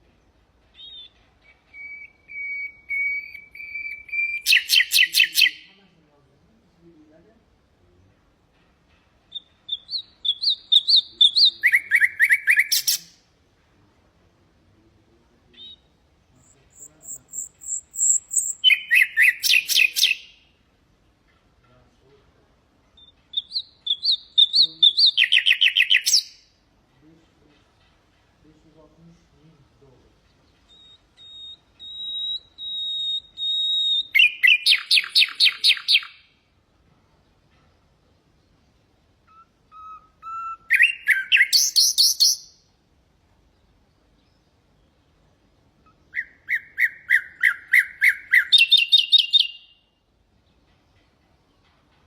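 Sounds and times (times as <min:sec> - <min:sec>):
nightingale singing: 0:00.0 - 0:05.8, 0:09.0 - 0:13.4, 0:14.8 - 0:20.7, 0:21.6 - 0:26.6, 0:29.0 - 0:36.5, 0:37.1 - 0:42.8, 0:43.4 - 0:52.0.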